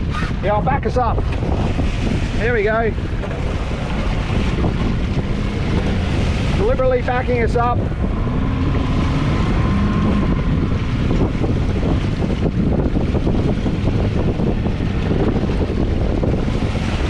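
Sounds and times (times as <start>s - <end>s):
outboard motor running: 0.0s - 17.0s
water churning: 0.0s - 17.0s
wind buffeting microphone: 0.0s - 17.0s.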